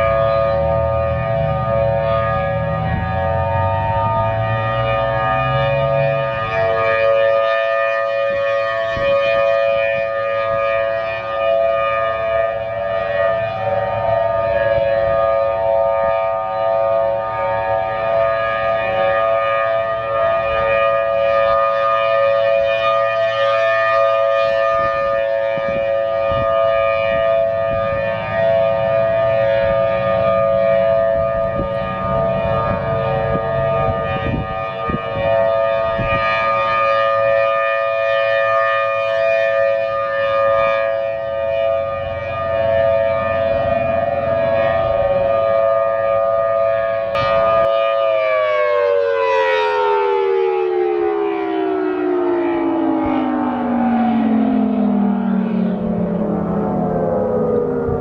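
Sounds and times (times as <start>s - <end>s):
warning siren steady tone: 0.0s - 58.0s.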